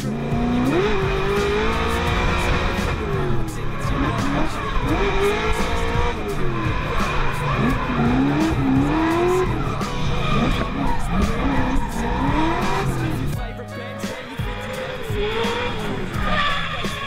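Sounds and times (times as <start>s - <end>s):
car engine revving: 0.0s - 13.4s, 14.0s - 17.0s
tyres squealing: 0.0s - 13.4s, 14.0s - 17.0s.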